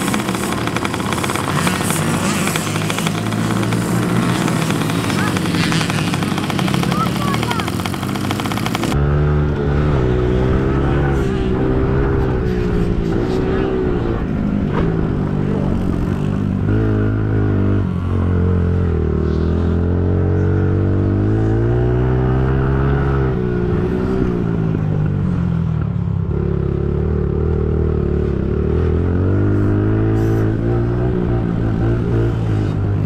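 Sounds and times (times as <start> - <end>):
pit bike engine revving: 0.0 - 25.3, 26.3 - 33.0.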